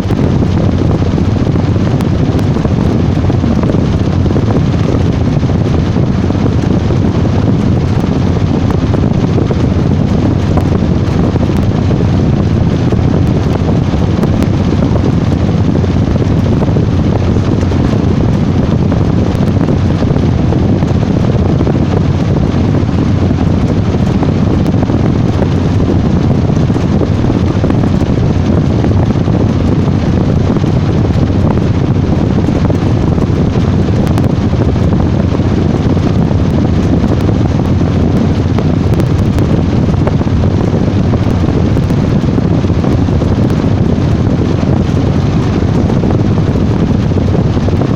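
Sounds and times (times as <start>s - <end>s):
washing machine rumbling: 0.0s - 47.9s.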